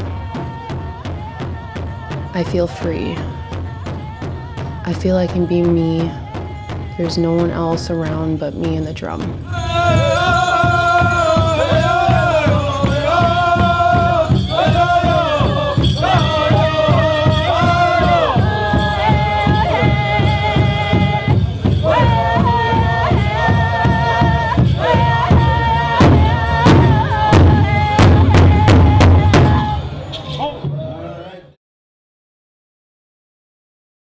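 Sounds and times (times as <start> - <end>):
large drum beating: 0.0 - 30.0
singers singing high phrases: 0.0 - 31.3.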